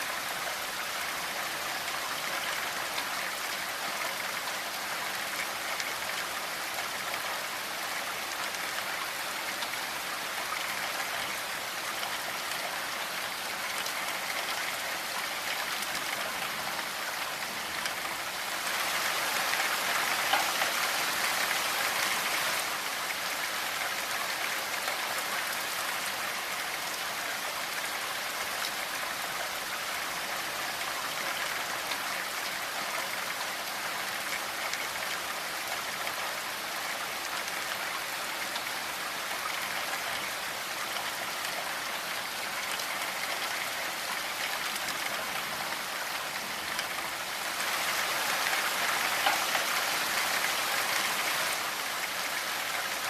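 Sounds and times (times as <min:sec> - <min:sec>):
steady rainfall pattering: 0:00.0 - 0:53.0.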